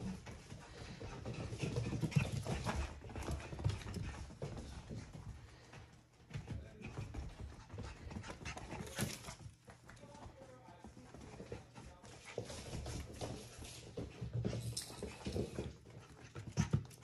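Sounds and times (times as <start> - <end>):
puppy claws pattering on floor: 0.0 - 17.0.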